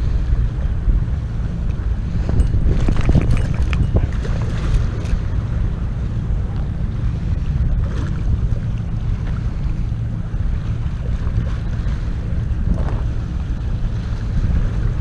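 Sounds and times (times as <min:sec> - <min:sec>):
choppy sea water washing: 0:00.0 - 0:15.0
wind buffeting microphone: 0:00.0 - 0:15.0.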